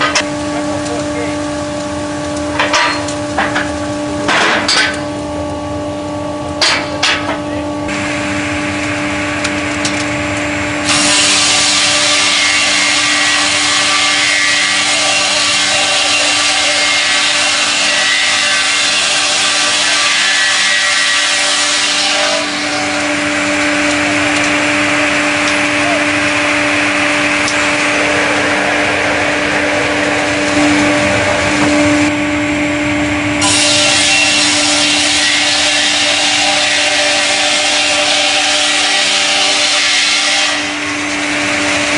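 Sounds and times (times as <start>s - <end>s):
sawmill machine hum: 0.0s - 41.9s.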